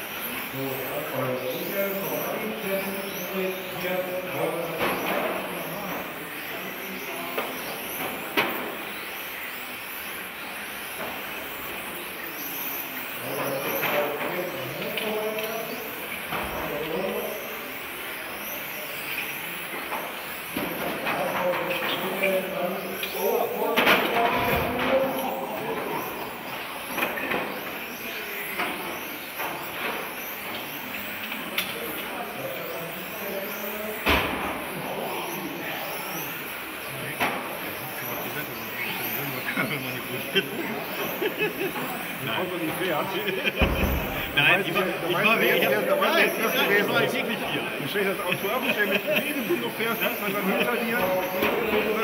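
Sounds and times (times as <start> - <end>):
electric rc cars whining: 0.0 - 52.0.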